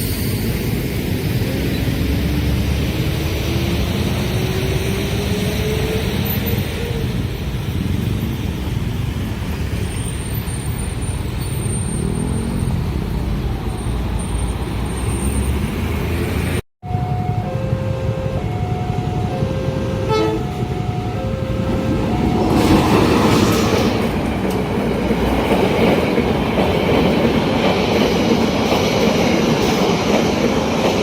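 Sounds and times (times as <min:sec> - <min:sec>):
train rumbling and rattling: 0:00.0 - 0:31.0.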